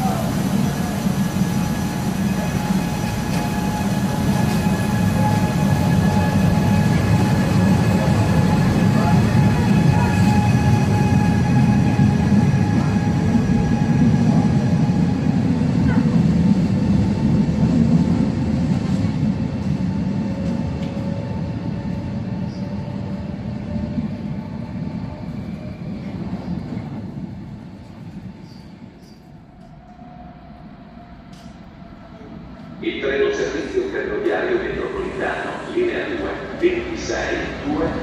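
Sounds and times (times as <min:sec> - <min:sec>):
low rail rumble: 0:00.0 - 0:38.0
train whine: 0:00.0 - 0:38.0.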